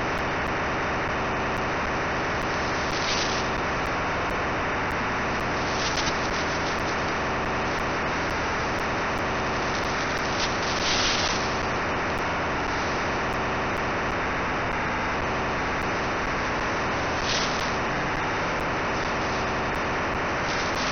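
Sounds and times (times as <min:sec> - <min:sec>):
radio static: 0:00.0 - 0:20.9.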